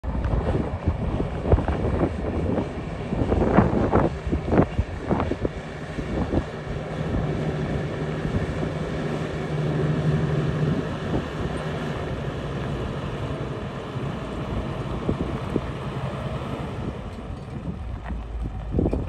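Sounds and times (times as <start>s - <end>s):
truck engine driving slowly: 0.0s - 19.0s
wind buffeting microphone: 0.0s - 19.0s.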